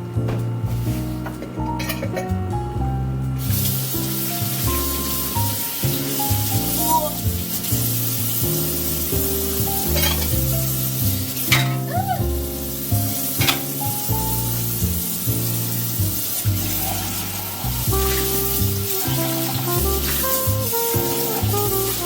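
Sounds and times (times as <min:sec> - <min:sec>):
background music with bass line: 0:00.0 - 0:22.0
continuous hiss: 0:00.0 - 0:22.0.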